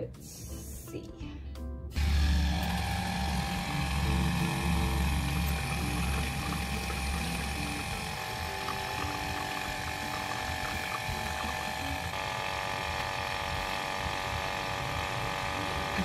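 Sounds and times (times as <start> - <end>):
espresso machine pump humming: 2.0 - 16.0.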